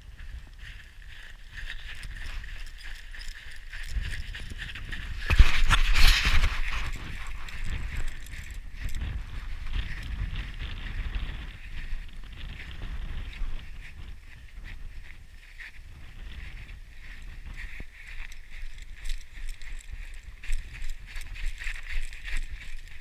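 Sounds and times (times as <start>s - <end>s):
wind buffeting microphone: 0.0s - 23.0s
boots crunching in snow: 0.2s - 23.0s.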